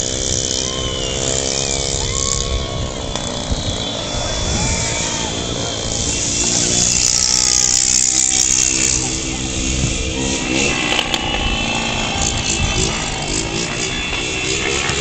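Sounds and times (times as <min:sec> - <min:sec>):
sustained tones: 0:00.0 - 0:15.0
vehicle engines droning: 0:00.0 - 0:15.0
voices: 0:00.0 - 0:15.0.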